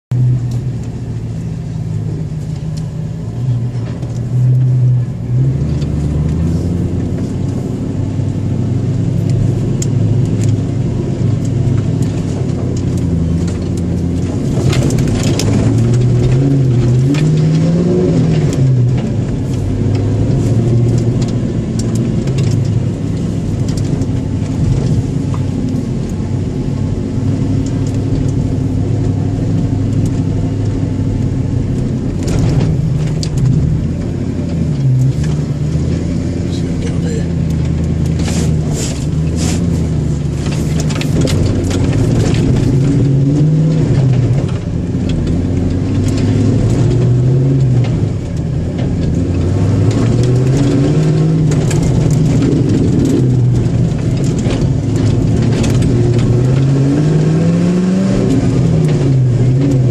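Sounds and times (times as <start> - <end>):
vehicle knocks and rattles: 1.6 - 59.9
engine revving under load: 3.5 - 25.7, 32.0 - 59.9.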